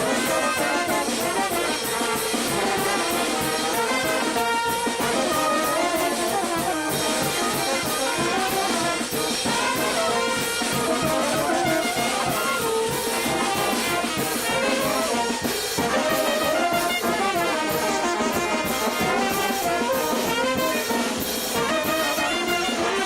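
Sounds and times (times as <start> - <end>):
brass band playing: 0.0 - 23.0
drums with steady beat: 0.0 - 23.0.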